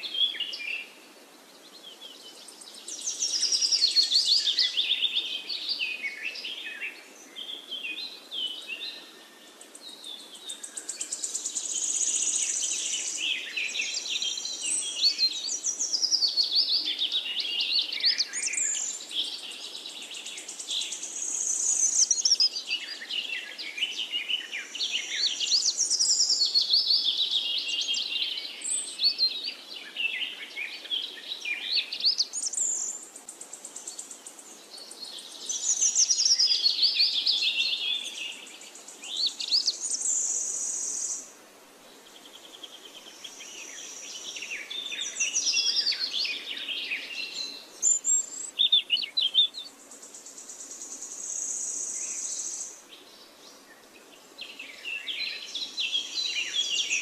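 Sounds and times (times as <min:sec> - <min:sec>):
birdsong chirps and trills: 0:00.0 - 0:57.0.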